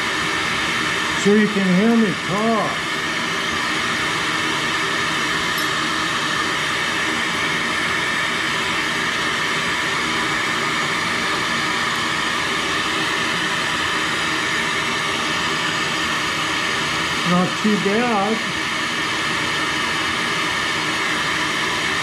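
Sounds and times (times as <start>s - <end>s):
shop vacuum running: 0.0s - 22.0s.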